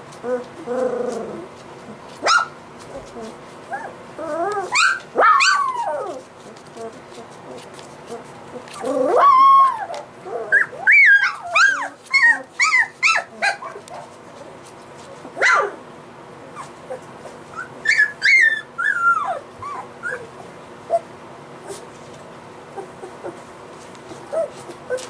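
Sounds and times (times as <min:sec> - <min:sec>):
puppies whimpering and yelping: 0:00.1 - 0:14.2, 0:16.4 - 0:25.0.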